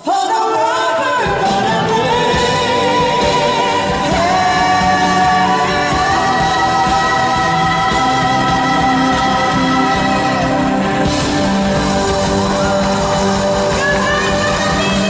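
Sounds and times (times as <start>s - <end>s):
person singing long notes: 0.0s - 15.0s
instrumental accompaniment: 1.1s - 15.0s.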